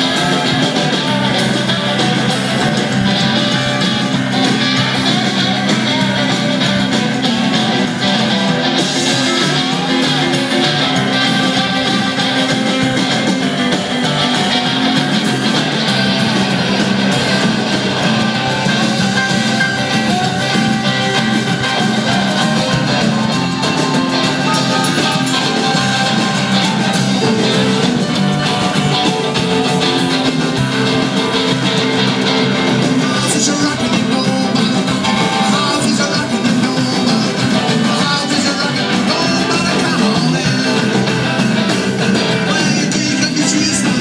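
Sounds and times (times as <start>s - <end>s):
drums: 0.0s - 44.0s
electric guitar: 0.0s - 44.0s
keyboard: 0.0s - 44.0s
upright bass: 0.0s - 44.0s.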